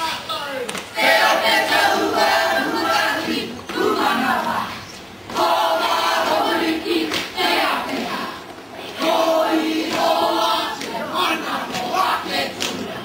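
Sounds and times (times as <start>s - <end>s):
group singing in unison: 1.0s - 13.0s.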